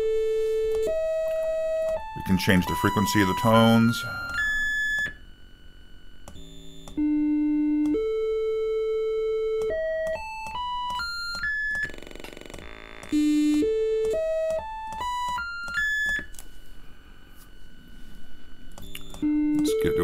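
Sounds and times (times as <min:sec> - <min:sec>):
test tones climbing in steps: 0:00.0 - 0:05.2, 0:06.2 - 0:16.3, 0:18.7 - 0:20.0
low buzz: 0:00.0 - 0:20.0.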